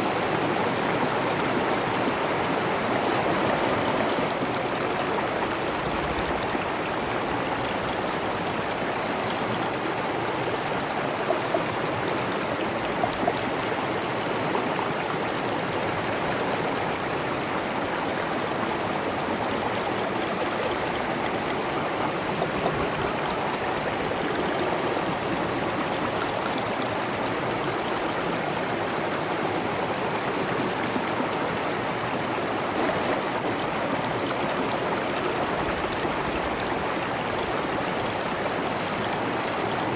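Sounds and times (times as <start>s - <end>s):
stream of water splashing: 0.0s - 39.9s.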